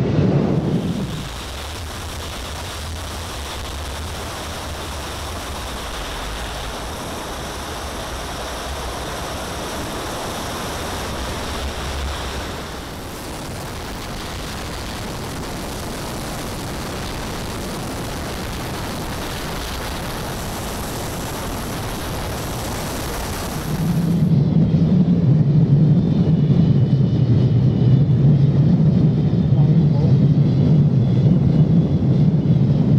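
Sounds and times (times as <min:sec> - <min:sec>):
jet engine noise: 0:00.0 - 0:32.9
wind rush: 0:00.0 - 0:32.9.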